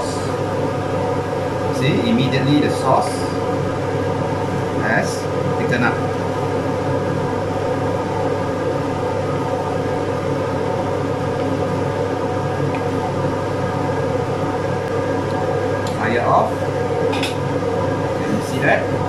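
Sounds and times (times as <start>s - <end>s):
kitchen appliance fan whirring: 0.0s - 19.0s.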